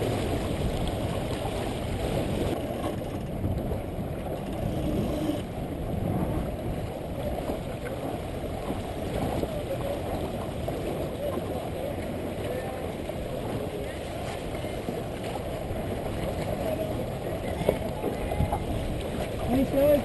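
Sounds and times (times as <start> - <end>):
water rushing along hull: 0.0 - 20.0
wind on microphone: 0.0 - 20.0.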